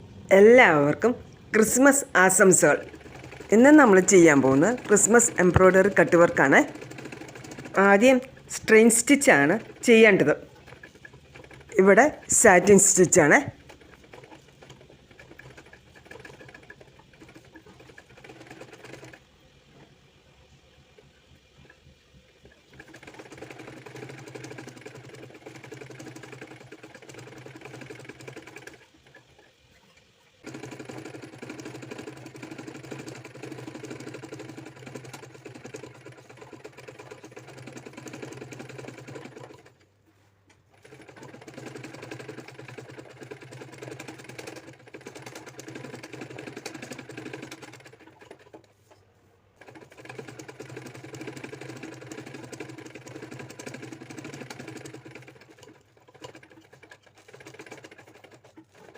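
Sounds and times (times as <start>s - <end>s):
sewing machine stitching: 0.0s - 58.9s.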